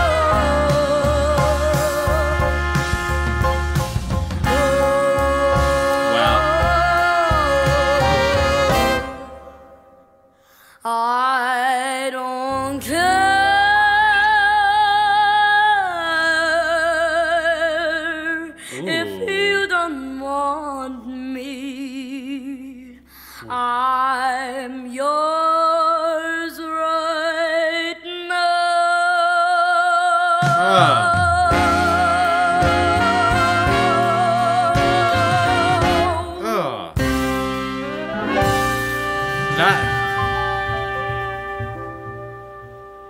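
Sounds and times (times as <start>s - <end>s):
girl singing jazz ballad: 0.0s - 3.5s, 4.4s - 9.1s, 10.7s - 36.4s, 39.8s - 42.2s.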